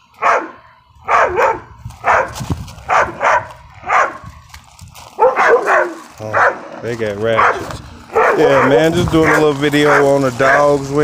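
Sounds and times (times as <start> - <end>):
dog barking: 0.2 - 4.2, 5.2 - 6.6, 7.4 - 10.7.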